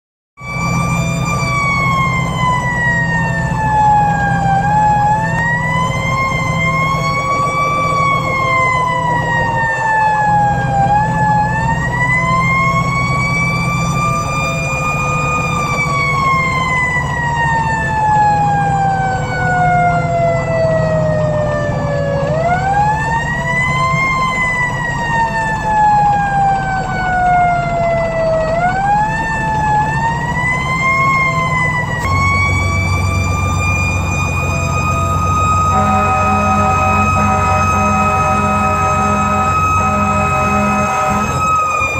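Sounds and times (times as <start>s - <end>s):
mechanical siren wailing: 0.4s - 41.9s
truck engine: 0.4s - 41.9s.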